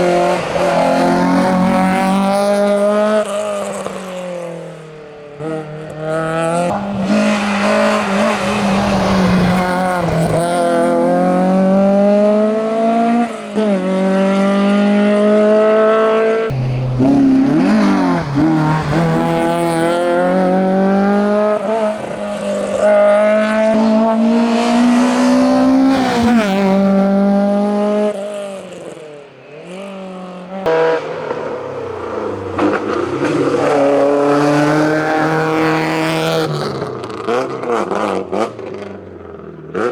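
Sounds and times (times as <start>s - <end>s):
car engine revving and shifting: 0.0s - 39.9s
second car engine revving: 0.0s - 39.9s.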